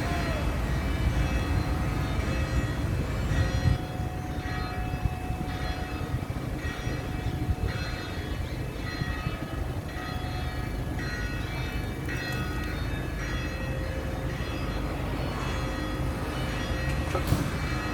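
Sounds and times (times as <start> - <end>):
bells ringing: 0.0 - 17.9.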